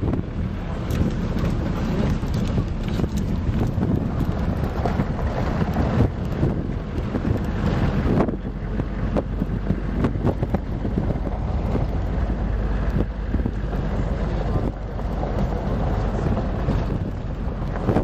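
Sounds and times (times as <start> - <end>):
low rumble: 0.0 - 18.0
wind buffeting microphone: 0.0 - 18.0.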